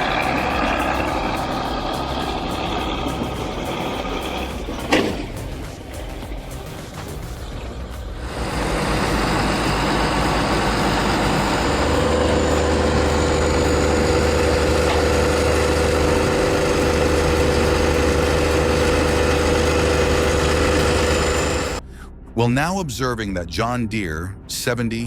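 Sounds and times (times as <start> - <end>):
heavy machine engine droning: 0.0 - 22.1
higher steady tone: 0.0 - 24.4
low hum: 0.0 - 25.0.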